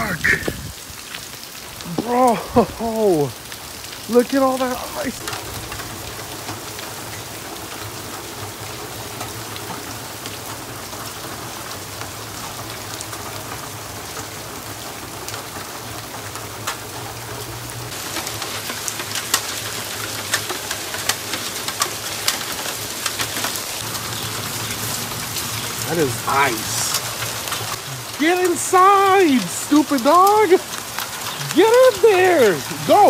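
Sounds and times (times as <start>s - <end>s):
rain falling on wet ground: 0.0s - 33.0s
sharp ticks of raindrops: 0.0s - 33.0s.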